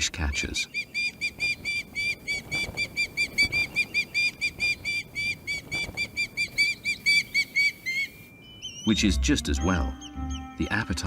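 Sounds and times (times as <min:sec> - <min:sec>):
bird high-pitched whistled chirps: 0:00.4 - 0:10.6.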